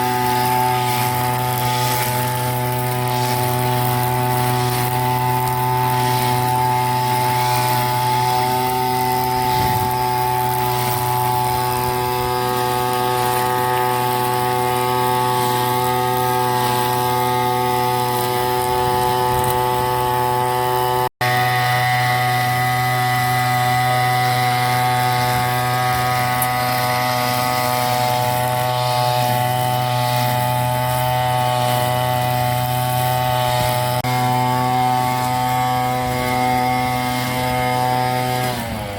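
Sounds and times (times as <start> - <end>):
brush cutter engine cutting grass: 0.0 - 38.9.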